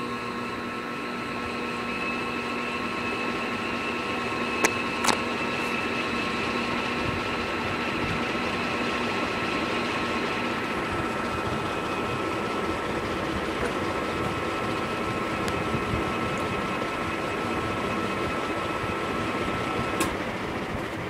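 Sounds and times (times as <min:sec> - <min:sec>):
ceiling fan running: 0:00.0 - 0:21.0.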